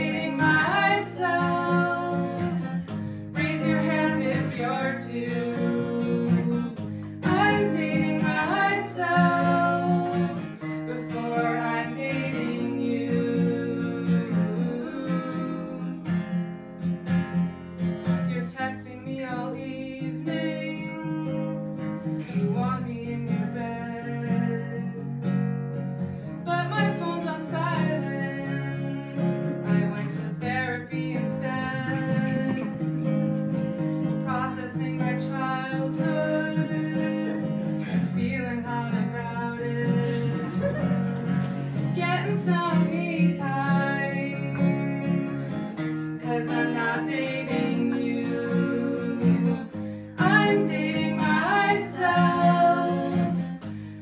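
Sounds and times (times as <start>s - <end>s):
women singing: 0.0s - 16.2s, 18.2s - 25.2s, 26.4s - 53.9s
acoustic guitar strummed: 0.0s - 54.0s.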